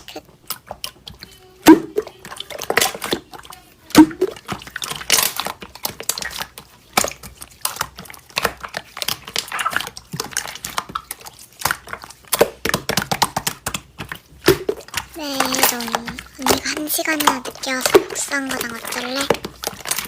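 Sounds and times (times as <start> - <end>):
slime crackling and popping: 0.0 - 20.0.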